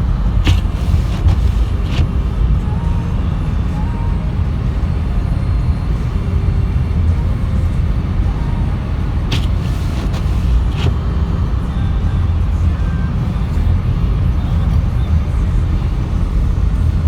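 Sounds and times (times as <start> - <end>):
car driving rumble from inside: 0.0 - 17.0.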